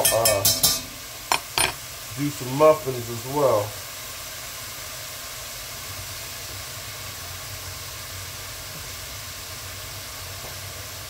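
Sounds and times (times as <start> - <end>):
meat and onions sizzling in a pot: 0.0 - 11.0.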